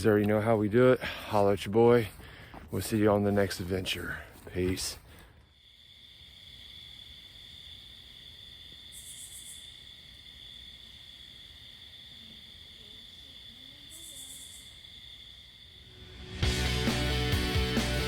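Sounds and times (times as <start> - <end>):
crickets trilling: 0.0 - 16.4.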